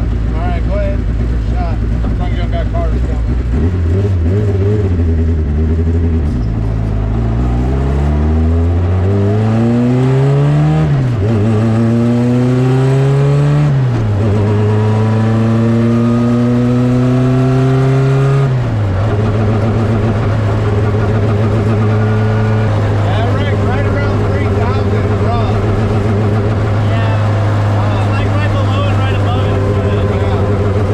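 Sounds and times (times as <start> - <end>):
car engine accelerating: 0.0 - 30.9.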